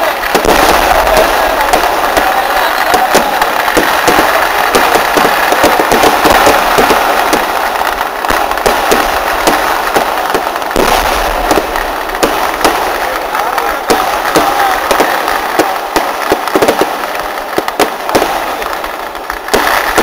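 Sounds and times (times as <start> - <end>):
deep fireworks booming: 0.0 - 20.0
fireworks cracks and bangs: 0.0 - 20.0.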